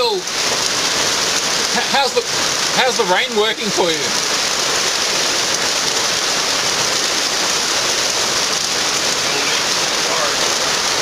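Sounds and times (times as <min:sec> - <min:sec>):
rain falling steadily: 0:00.0 - 0:11.0.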